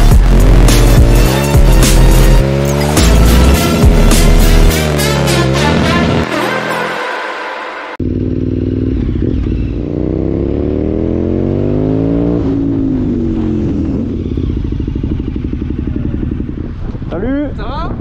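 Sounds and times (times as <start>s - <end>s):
motorcycle engine revving: 0.0s - 6.6s, 8.0s - 18.0s.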